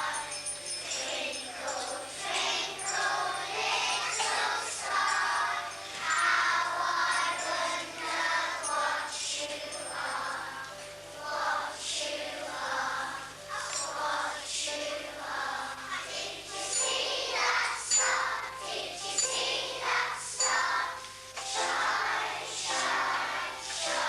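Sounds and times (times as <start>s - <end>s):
small bells tinkling: 0.0s - 14.4s, 16.0s - 24.0s
children's choir singing: 0.0s - 24.0s
musical accompaniment: 0.0s - 24.0s.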